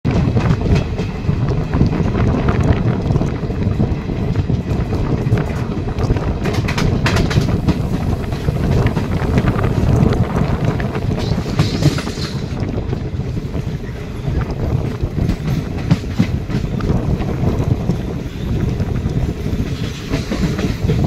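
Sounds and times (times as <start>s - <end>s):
train wheels rumbling on track: 0.0s - 21.0s
wind buffeting microphone: 0.0s - 21.0s.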